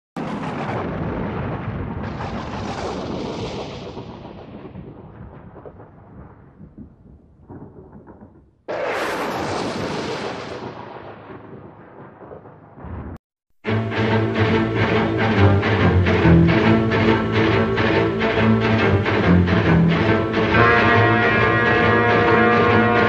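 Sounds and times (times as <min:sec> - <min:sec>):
loud thunderclap: 0:00.2 - 0:23.0
thunder rumbling: 0:00.2 - 0:23.0.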